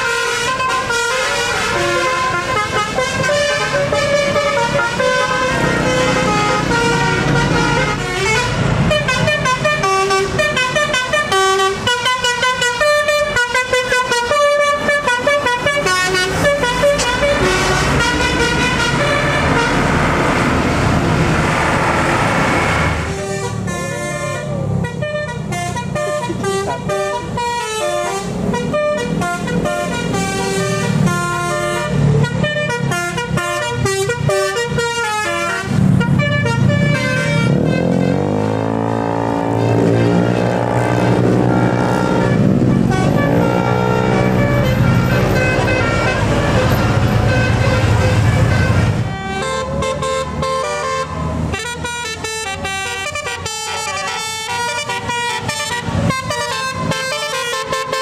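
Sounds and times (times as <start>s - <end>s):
multi-tone bus horns playing melodies: 0.0s - 58.0s
passing vehicle engines: 0.0s - 58.0s.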